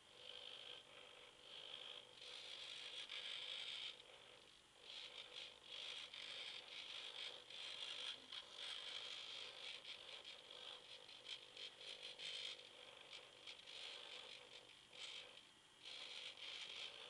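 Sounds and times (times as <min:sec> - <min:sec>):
small servos whirring: 0:00.0 - 0:17.0.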